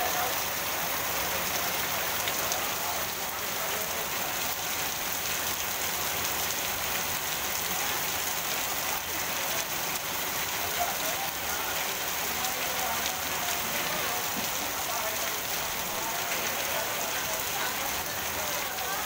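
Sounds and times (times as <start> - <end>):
torrential rain on pavement: 0.0 - 19.0.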